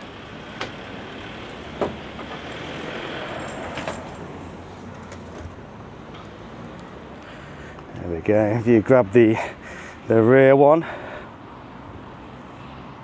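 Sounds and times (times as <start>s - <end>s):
road traffic noise: 0.0s - 13.0s
vehicle passing: 0.0s - 13.0s.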